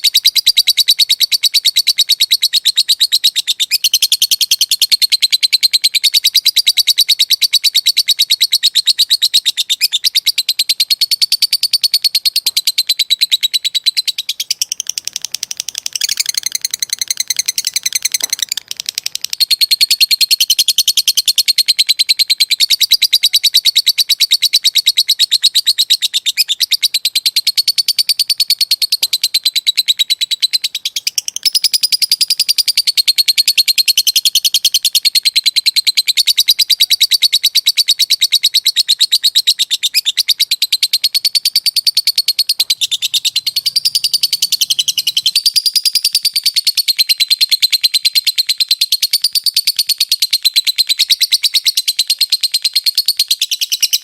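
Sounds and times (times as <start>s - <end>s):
lovebird chatter trill: 0.0s - 54.0s.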